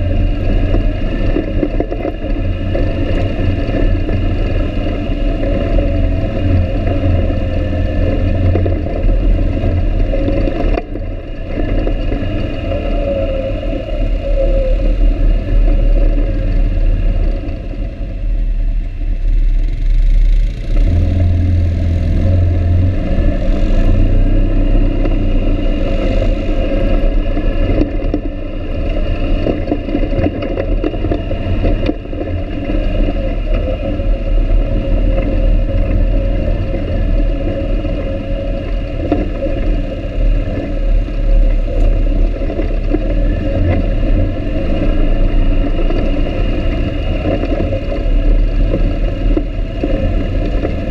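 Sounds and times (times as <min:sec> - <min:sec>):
clatter and knocks over bumps: 0:00.0 - 0:18.6, 0:19.2 - 0:50.9
atv engine running: 0:00.0 - 0:50.9.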